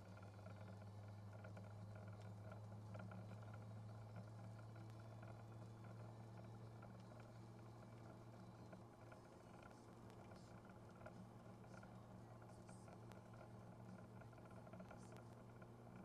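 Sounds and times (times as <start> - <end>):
car cruising interior drone: 0.0 - 16.0
light ticks: 0.1 - 16.0.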